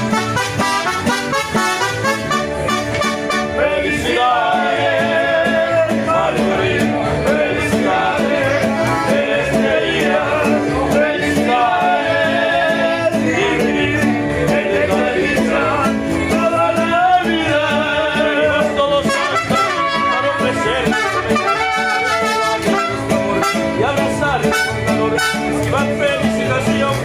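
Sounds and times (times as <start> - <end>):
mariachi band playing: 0.0 - 27.0.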